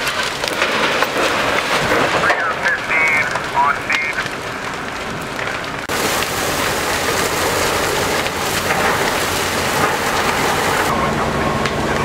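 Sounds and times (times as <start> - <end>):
fire hissing and crackling: 0.0 - 12.0.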